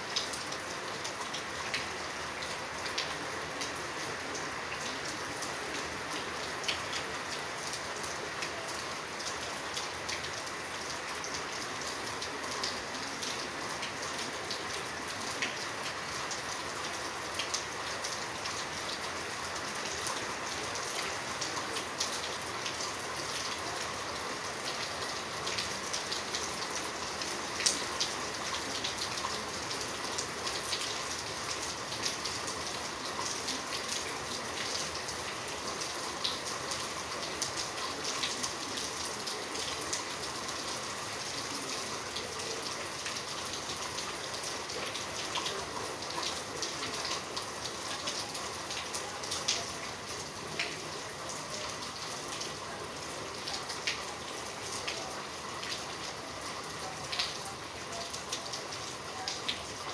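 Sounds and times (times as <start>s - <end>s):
raindrops ticking and spattering: 0.0s - 59.9s
steady rain falling: 0.0s - 59.9s.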